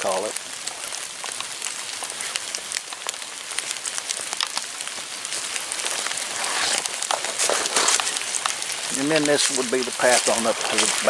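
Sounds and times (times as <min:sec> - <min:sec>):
rain falling in woodland: 0:00.0 - 0:11.0.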